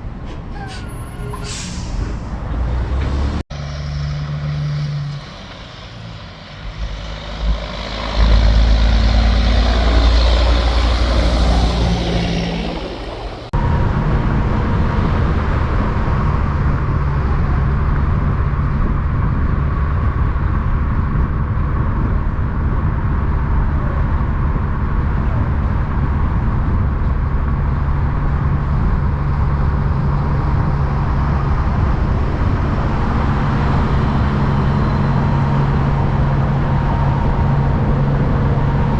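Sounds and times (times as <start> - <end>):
semi truck passing by: 0.0 - 20.7, 23.4 - 38.9
diesel truck engine running: 1.5 - 38.9.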